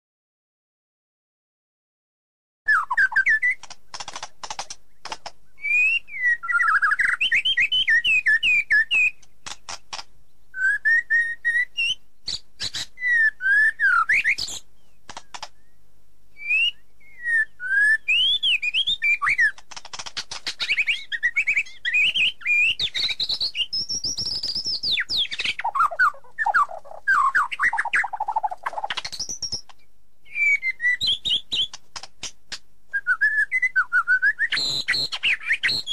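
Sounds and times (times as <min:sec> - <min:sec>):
bird singing chirps and trills: 0:02.7 - 0:15.8, 0:16.4 - 0:31.8, 0:33.0 - 0:35.9.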